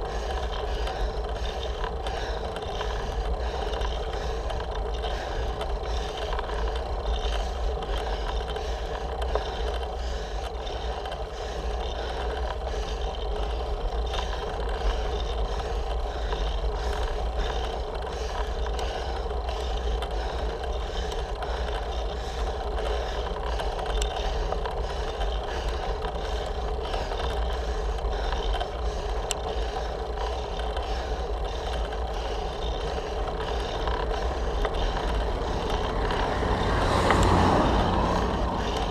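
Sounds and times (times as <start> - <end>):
bike tyre road noise: 0.0 - 38.9
handlebar rattle: 0.0 - 38.9.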